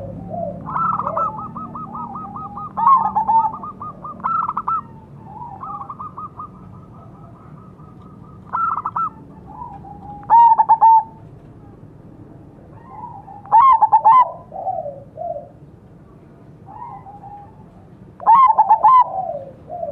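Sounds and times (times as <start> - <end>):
doves cooing: 0.0 - 11.8, 12.7 - 15.6, 16.6 - 19.9.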